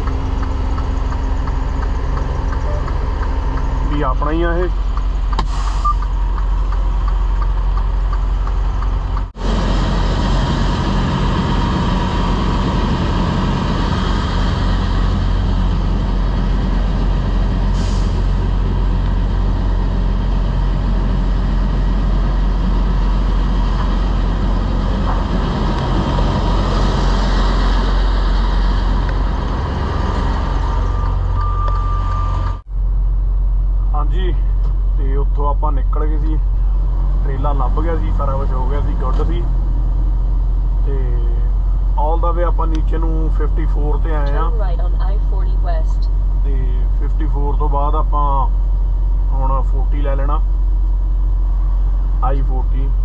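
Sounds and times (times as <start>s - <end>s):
truck diesel engine idling: 0.0s - 53.0s.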